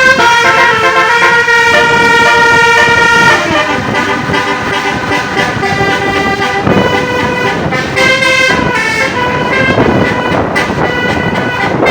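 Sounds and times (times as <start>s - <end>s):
multi-tone bus horn tune: 0.0s - 11.9s.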